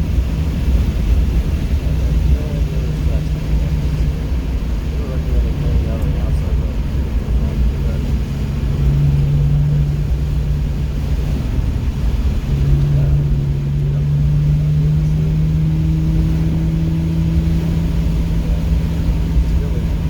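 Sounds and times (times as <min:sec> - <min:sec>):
car engine running under load: 0:00.0 - 0:20.0
low road rumble: 0:00.0 - 0:20.0.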